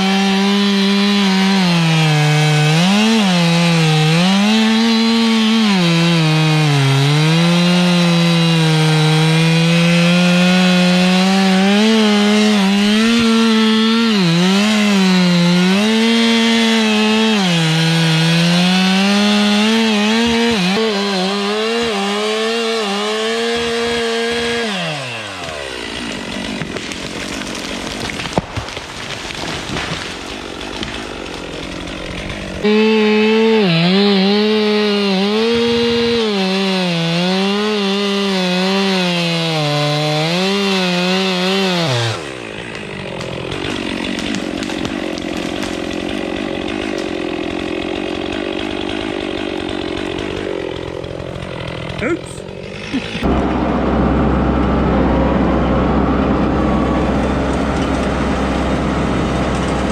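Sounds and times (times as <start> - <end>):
band saw cutting log: 0.0 - 59.9
sawmill engine under load: 0.0 - 59.9.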